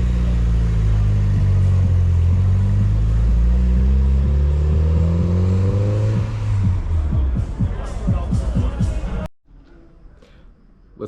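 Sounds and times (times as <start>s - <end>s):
car engine running: 0.0s - 9.3s.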